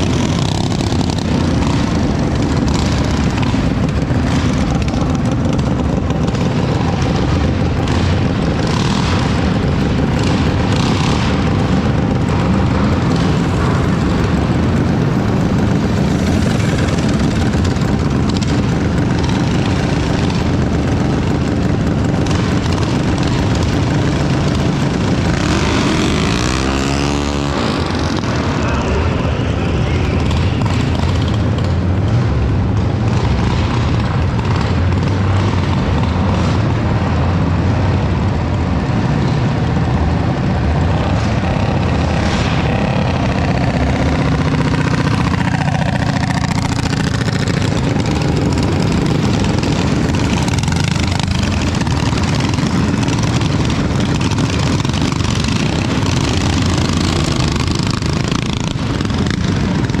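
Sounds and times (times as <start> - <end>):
mini bike engines revving: 0.0 - 60.0.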